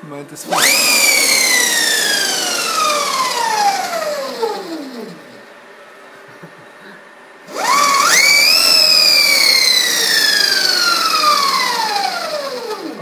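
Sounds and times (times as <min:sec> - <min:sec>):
electric motor whining: 0:00.4 - 0:05.5, 0:07.5 - 0:13.0.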